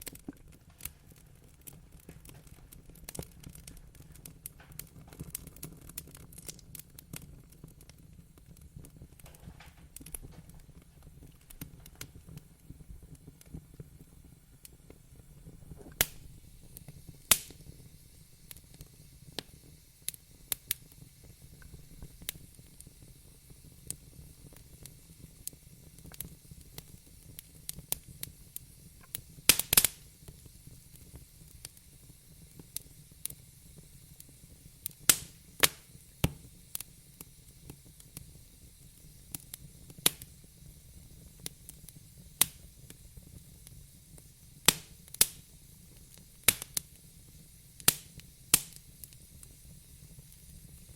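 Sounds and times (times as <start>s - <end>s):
light hiss: 0.0s - 50.9s
wood fire crackling and popping: 0.0s - 50.9s.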